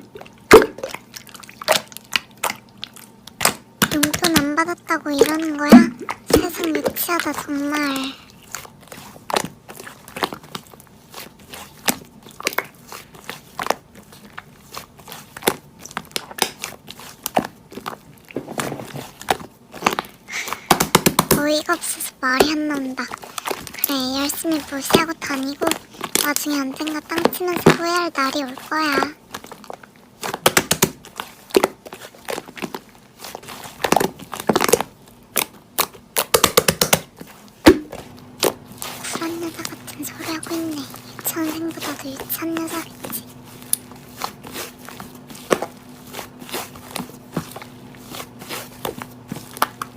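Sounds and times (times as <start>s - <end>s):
slime crackling and popping: 0.3s - 49.9s.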